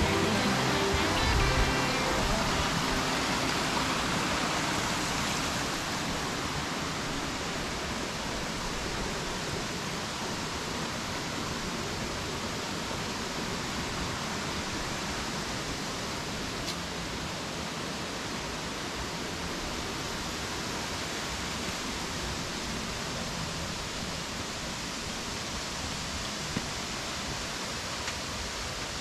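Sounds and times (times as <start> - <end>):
creek rushing over rocks: 0.0 - 29.0.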